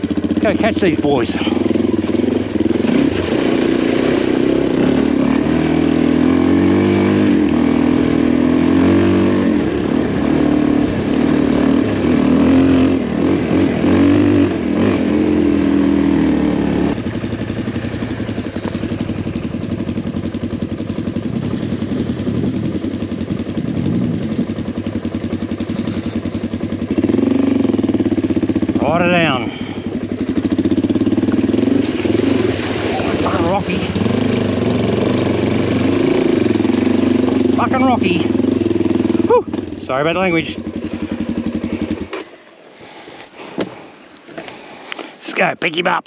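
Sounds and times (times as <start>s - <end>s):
motorcycle engine revving: 0.0s - 44.5s.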